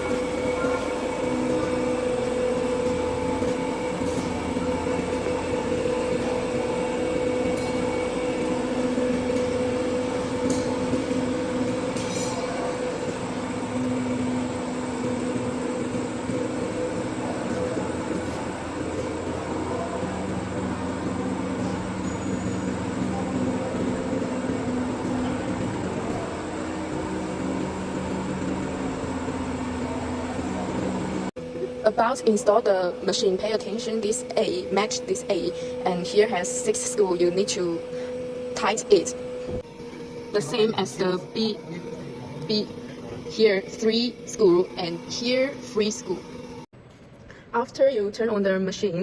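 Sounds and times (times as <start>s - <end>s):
machinery humming: 0.0s - 49.0s.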